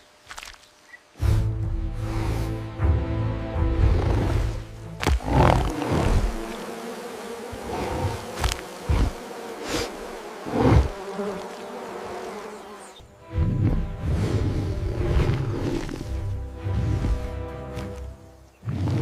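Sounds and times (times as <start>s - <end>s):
insect-like buzzing: 0.0s - 19.0s.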